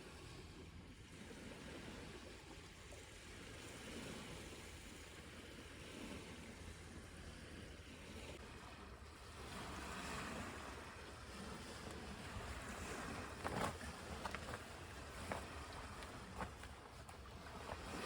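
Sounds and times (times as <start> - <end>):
water: 0.0 - 18.0
wind: 0.0 - 18.0.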